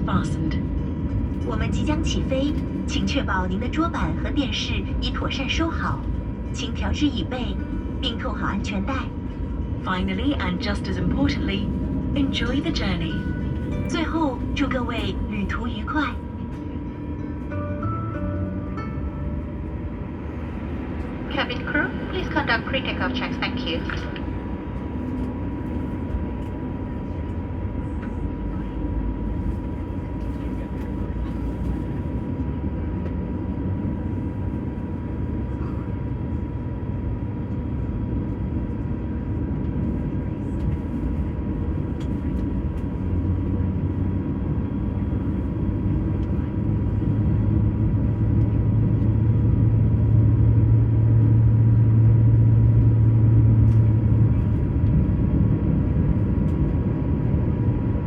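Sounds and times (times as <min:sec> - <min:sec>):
aircraft cabin engine rumble: 0:00.0 - 0:58.0
low hum: 0:00.0 - 0:58.0.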